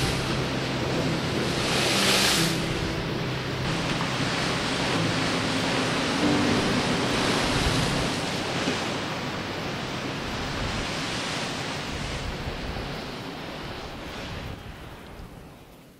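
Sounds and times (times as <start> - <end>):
surf breaking on rocks: 0.0 - 14.5
wind: 0.0 - 15.9.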